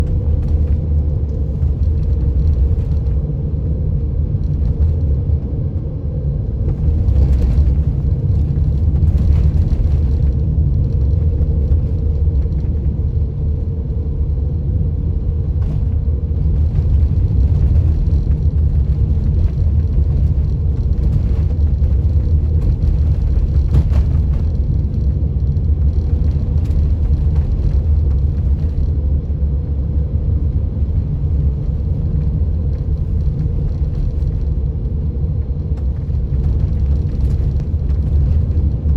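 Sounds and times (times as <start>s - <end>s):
vehicle driving rumble: 0.0s - 38.9s.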